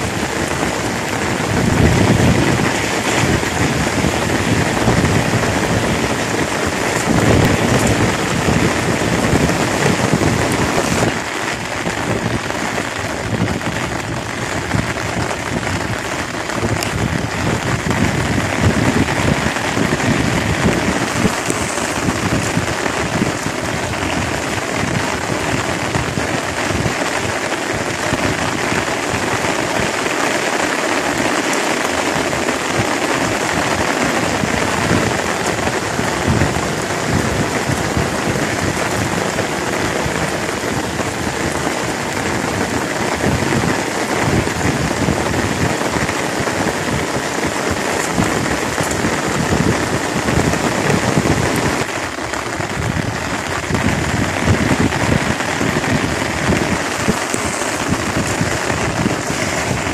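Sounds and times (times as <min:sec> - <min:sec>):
rain falling on water: 0:00.0 - 0:59.9.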